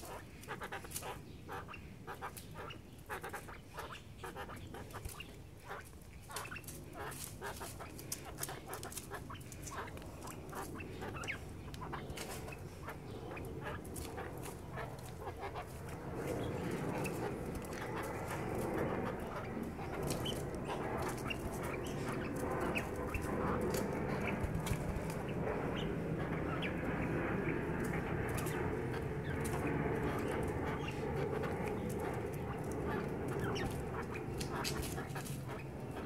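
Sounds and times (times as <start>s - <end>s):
quail giving rapid short calls: 0.0s - 26.8s, 27.4s - 36.0s.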